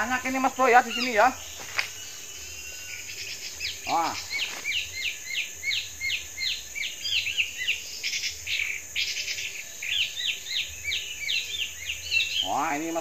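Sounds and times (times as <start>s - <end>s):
birds chirping rapidly: 0.0s - 13.0s.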